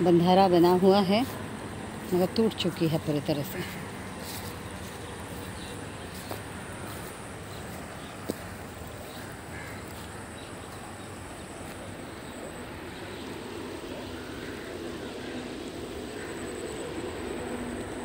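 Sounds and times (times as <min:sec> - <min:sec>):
distant vehicle hum: 0:00.0 - 0:18.0
outdoor background noise: 0:00.0 - 0:18.0.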